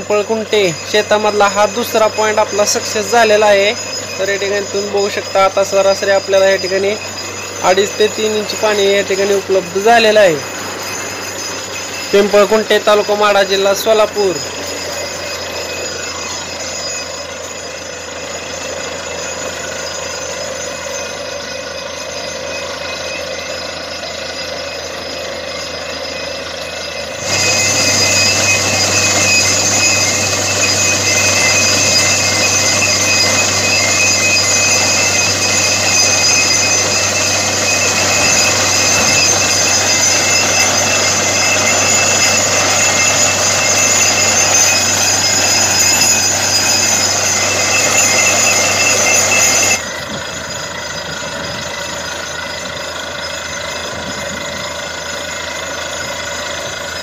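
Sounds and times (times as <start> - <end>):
drilling rig running: 0.0 - 57.0.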